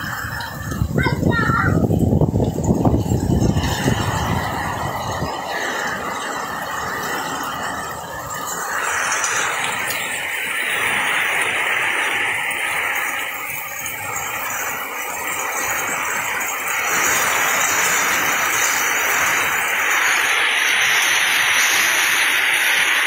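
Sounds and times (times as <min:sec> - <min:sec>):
torrential rain hissing: 0:00.0 - 0:23.0.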